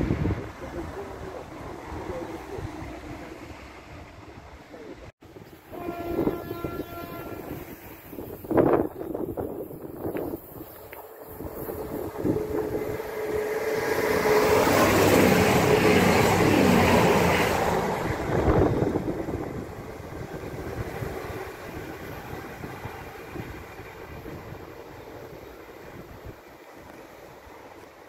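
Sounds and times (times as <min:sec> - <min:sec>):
diesel train passing at speed: 0:00.0 - 0:28.0.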